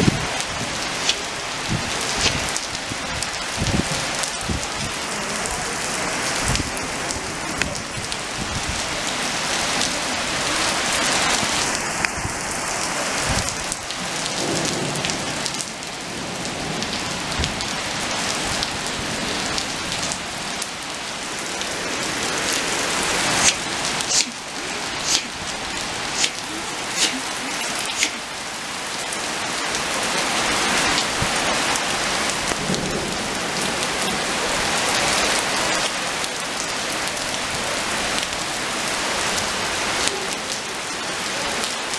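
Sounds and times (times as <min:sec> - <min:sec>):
rain on wet asphalt: 0:00.0 - 0:41.9.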